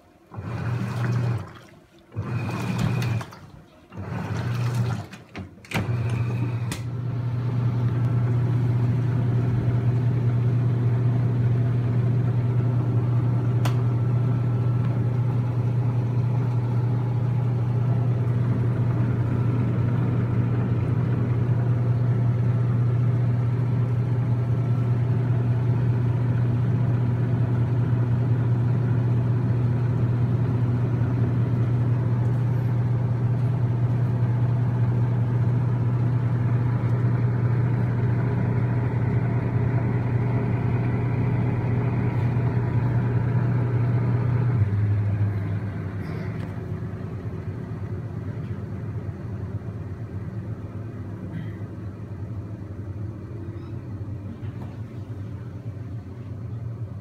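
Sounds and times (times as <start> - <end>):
washing machine humming: 0.0 - 57.0.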